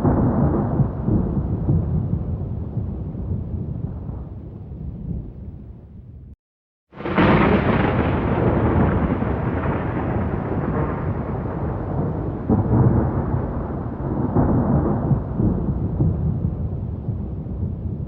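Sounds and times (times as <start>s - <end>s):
rolling thunder rumble: 0.0s - 18.0s
thunderclap: 0.0s - 18.0s.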